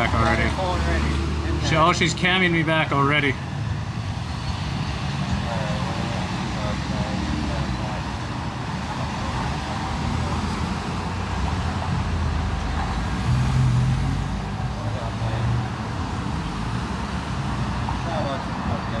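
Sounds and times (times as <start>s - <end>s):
road traffic: 0.0s - 19.0s
vehicle engine hum passing: 0.0s - 19.0s.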